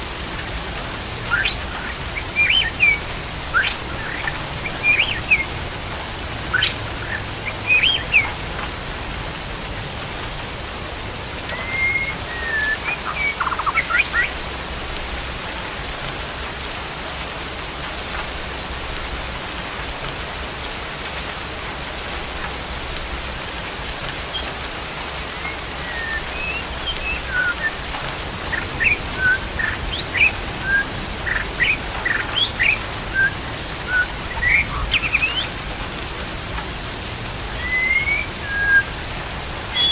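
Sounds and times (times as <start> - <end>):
steady rushing hiss: 0.0 - 39.9
small birds chirping: 0.2 - 10.5, 11.4 - 16.6, 21.8 - 36.4, 37.4 - 39.9.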